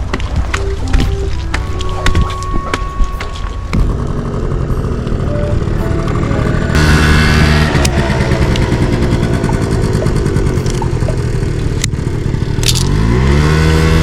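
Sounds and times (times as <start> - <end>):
background music low tones: 0.0 - 13.9.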